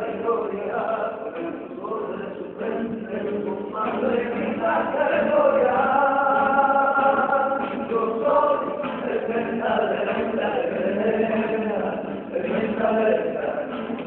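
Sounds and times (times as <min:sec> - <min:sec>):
men singing together: 0:00.0 - 0:14.0.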